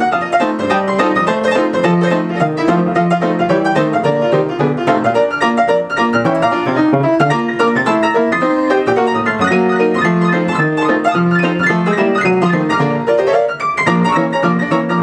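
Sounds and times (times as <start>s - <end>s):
player piano playing upbeat tune: 0.0s - 15.0s.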